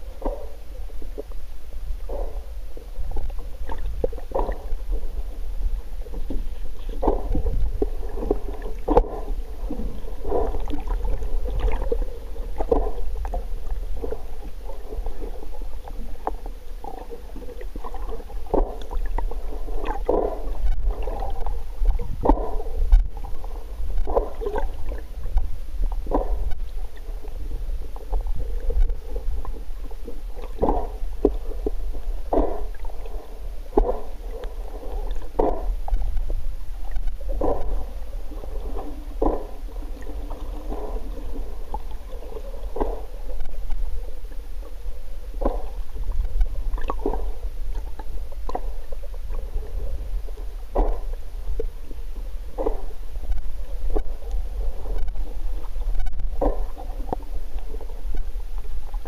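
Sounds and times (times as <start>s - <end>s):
underwater low rumble: 0.0s - 59.0s.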